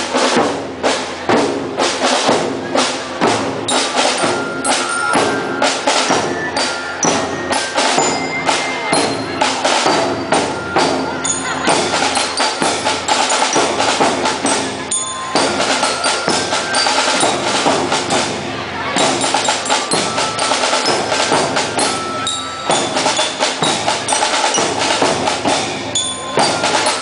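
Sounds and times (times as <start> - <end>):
marching band drums: 0.0 - 27.0
high bell-like notes: 3.7 - 27.0.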